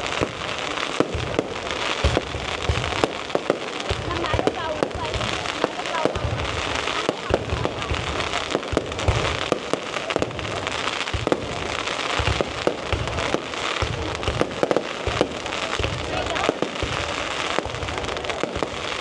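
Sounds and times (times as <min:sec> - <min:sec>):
crackling hiss: 0:00.0 - 0:19.0
deep fireworks booms: 0:00.0 - 0:19.0
fireworks cracks and bangs: 0:00.0 - 0:19.0.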